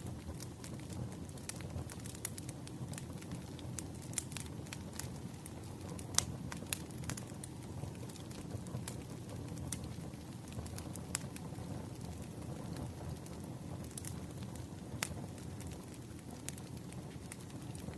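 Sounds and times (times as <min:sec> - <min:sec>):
low rumble of flames: 0:00.0 - 0:17.9
wood fire popping and snapping: 0:00.0 - 0:17.9.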